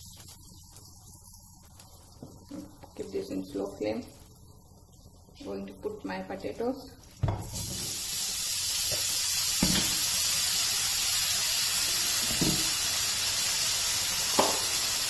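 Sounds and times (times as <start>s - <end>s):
potatoes sizzling in hot oil: 0.0s - 15.0s.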